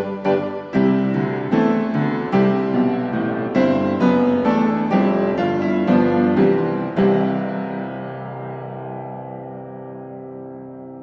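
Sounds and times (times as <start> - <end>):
piano notes ringing: 0.0 - 11.0.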